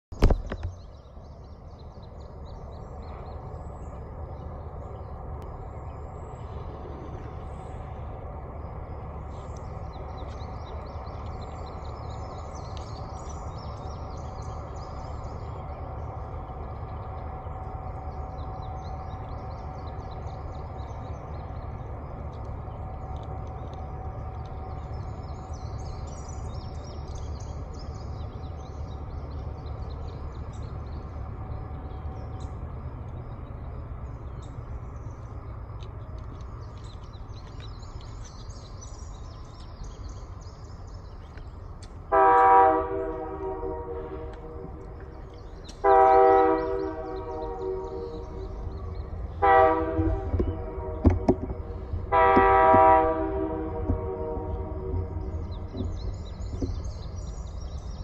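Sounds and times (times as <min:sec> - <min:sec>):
distant train rumble: 0:00.1 - 0:58.0
songbirds chirping: 0:00.2 - 0:58.0.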